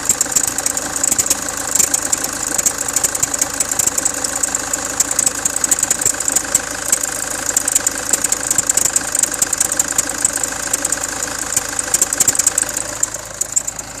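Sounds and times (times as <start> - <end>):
car engine idling: 0.0 - 14.0
rapid ticking rattle: 0.0 - 14.0.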